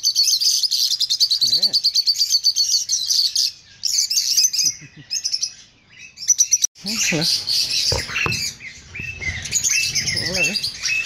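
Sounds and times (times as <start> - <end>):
lovebirds chattering: 0.0 - 11.0.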